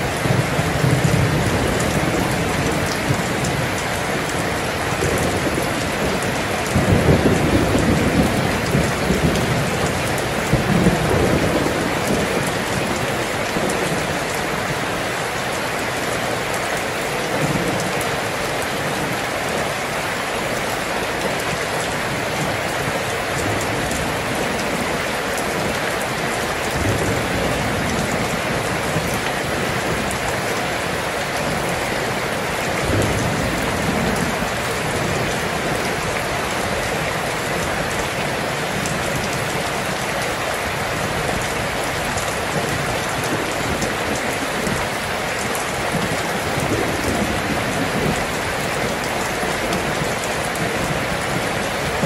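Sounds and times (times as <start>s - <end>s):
thunder rumbling: 0.0s - 19.6s, 20.2s - 52.0s
heavy rain: 0.0s - 52.0s.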